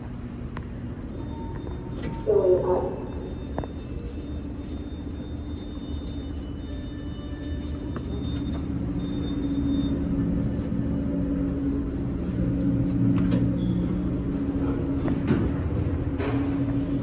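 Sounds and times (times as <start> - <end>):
elevator machine hum: 0.0 - 17.0.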